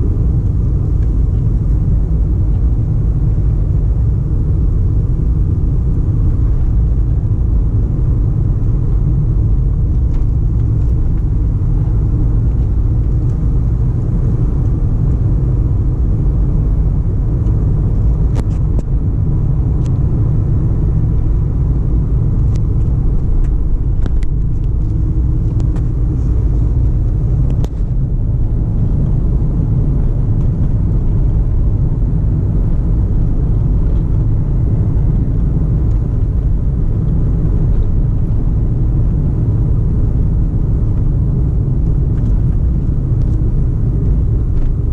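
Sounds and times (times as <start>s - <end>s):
car rumbling while moving: 0.0s - 44.9s.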